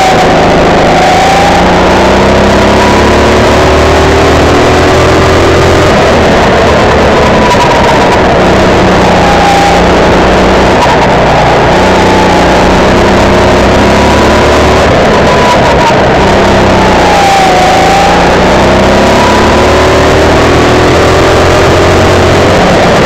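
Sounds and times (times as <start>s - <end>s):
kart engine running hard: 0.0s - 23.0s.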